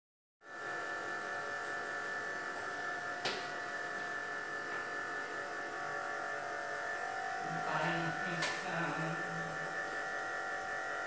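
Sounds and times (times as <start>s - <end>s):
steady electrical hum: 0.5s - 11.0s.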